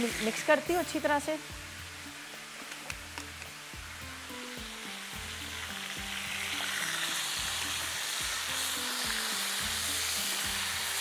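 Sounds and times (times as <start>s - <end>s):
food sizzling in hot oil: 0.0s - 11.0s
soft background music: 0.0s - 11.0s.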